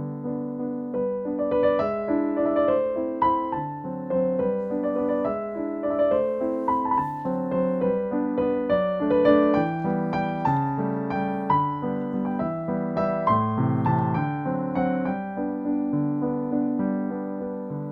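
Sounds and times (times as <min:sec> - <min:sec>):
gentle piano music: 0:00.0 - 0:17.9.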